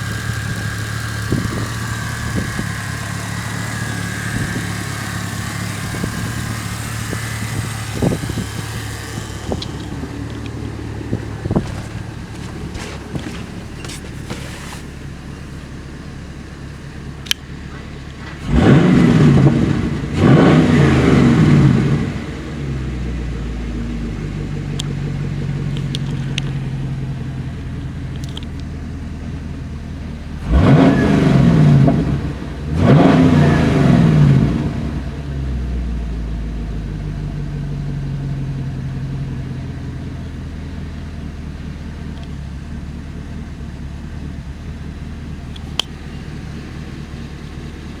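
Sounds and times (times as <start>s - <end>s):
car engine revving and idling: 0.0s - 48.0s.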